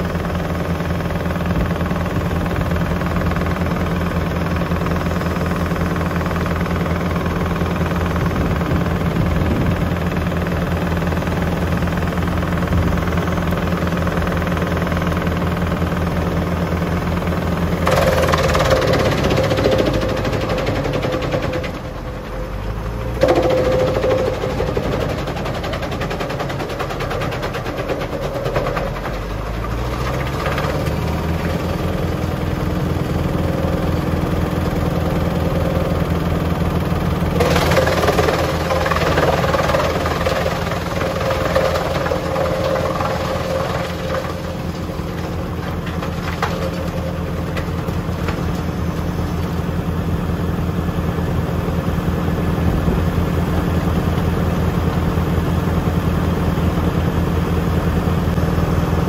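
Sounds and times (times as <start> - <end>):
tractor engine running: 0.0 - 59.0
wood chipper rattling clatter: 0.0 - 59.0.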